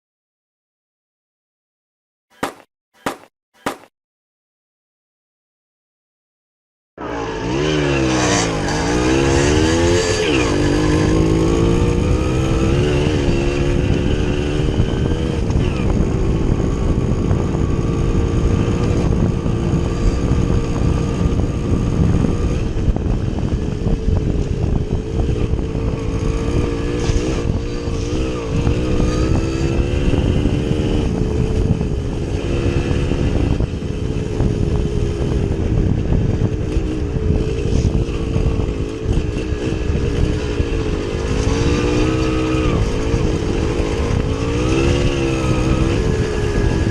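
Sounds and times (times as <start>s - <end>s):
two-stroke motorcycle engine revving: 7.0s - 46.9s
wind and ground rumble: 9.0s - 46.9s.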